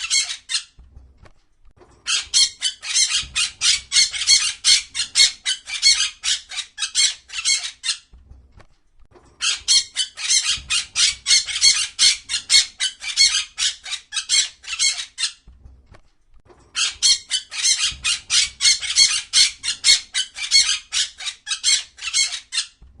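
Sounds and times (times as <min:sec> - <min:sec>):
parrot squawking: 0:00.0 - 0:00.8, 0:02.0 - 0:08.1, 0:09.4 - 0:15.4, 0:16.7 - 0:22.8.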